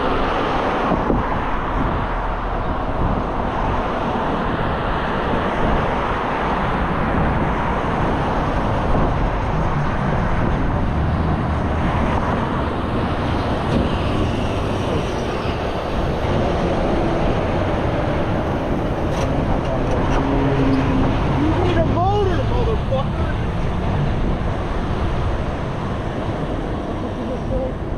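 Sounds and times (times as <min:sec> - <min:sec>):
road traffic rushing: 0:00.0 - 0:27.9.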